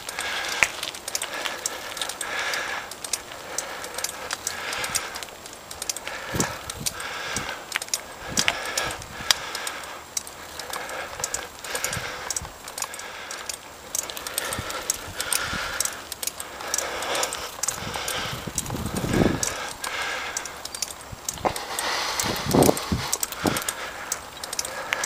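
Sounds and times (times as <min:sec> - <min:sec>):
bicycle parts rattling: 0:00.0 - 0:25.0.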